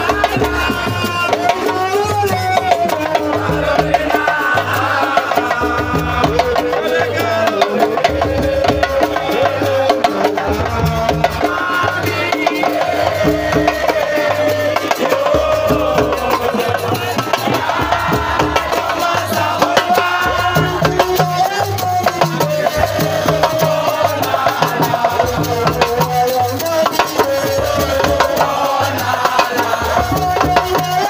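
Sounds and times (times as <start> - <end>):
singing: 0.0 - 31.0.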